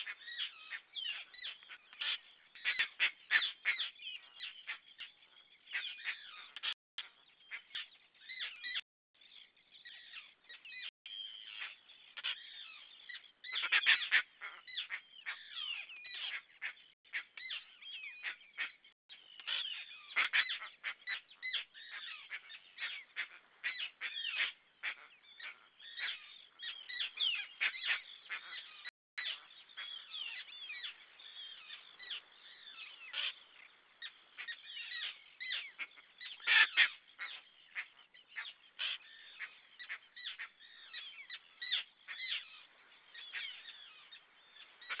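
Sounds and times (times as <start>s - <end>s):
flock of birds calling: 0.0s - 45.0s.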